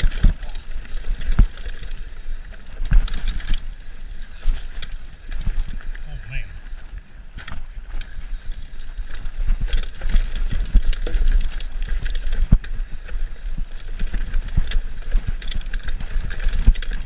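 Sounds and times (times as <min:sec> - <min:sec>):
bike knocking and rattling: 0:00.0 - 0:17.0
tyres rumbling on trail: 0:00.0 - 0:17.0.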